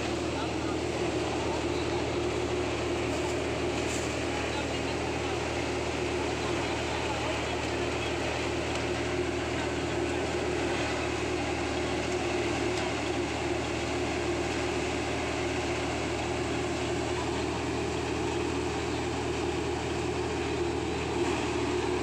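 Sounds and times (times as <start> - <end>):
tractor thresher running: 0.0 - 22.0.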